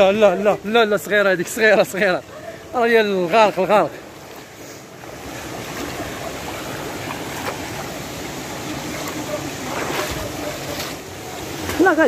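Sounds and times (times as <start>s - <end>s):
people wading splashing: 0.0s - 12.0s
stream flowing over rocks: 0.0s - 12.0s.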